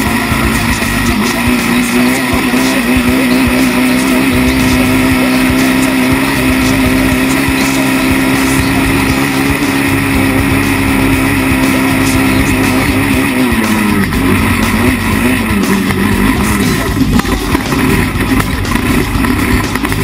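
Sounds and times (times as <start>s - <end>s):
quad bike engine running hard: 0.0s - 20.0s.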